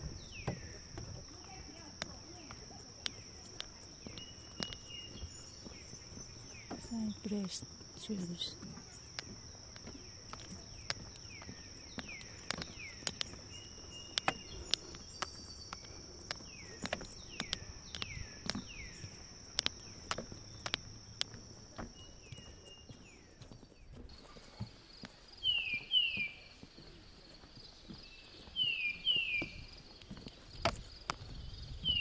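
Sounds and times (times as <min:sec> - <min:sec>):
footsteps clicking: 0:00.0 - 0:31.4.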